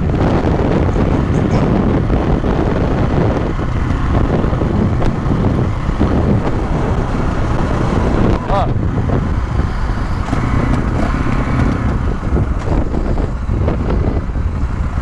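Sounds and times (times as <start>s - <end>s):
dirt bike engine rumble: 0.0s - 15.0s
wind buffeting microphone: 0.0s - 15.0s.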